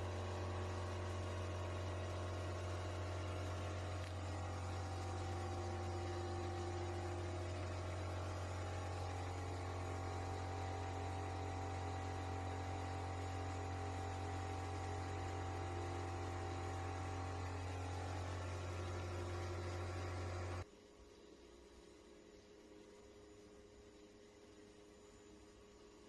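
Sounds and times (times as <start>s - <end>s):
machine electrical hum: 0.0s - 26.0s.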